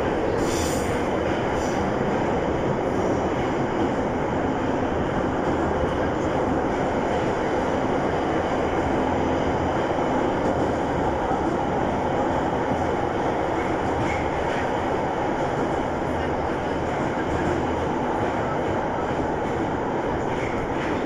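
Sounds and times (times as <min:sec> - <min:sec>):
subway train rumbling in tunnel: 0:00.0 - 0:21.0.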